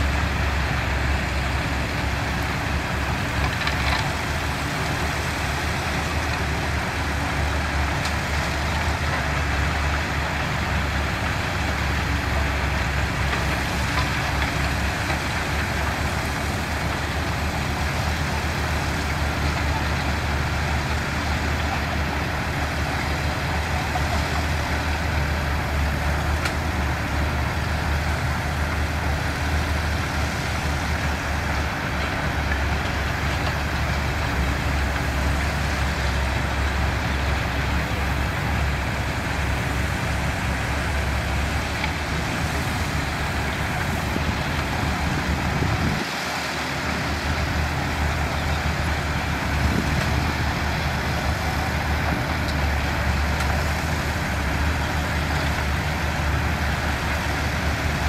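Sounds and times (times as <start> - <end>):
diesel engine of construction machinery: 0.0 - 58.0.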